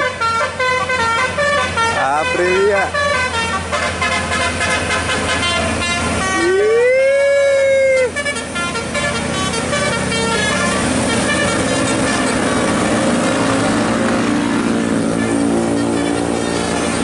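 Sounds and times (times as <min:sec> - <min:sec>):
musical air horns: 0:00.0 - 0:06.6, 0:07.9 - 0:13.8, 0:14.9 - 0:17.0
long air horn blast: 0:00.0 - 0:06.7, 0:07.8 - 0:17.0
diesel truck engine: 0:00.0 - 0:17.0.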